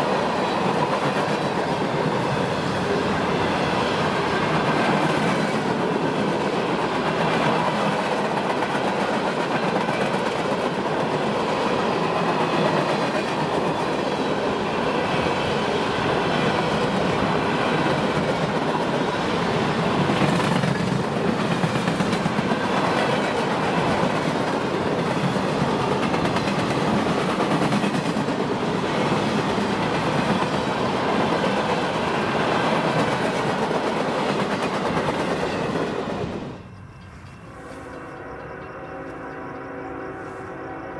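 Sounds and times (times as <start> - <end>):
train wheels on rail: 0.0 - 38.7.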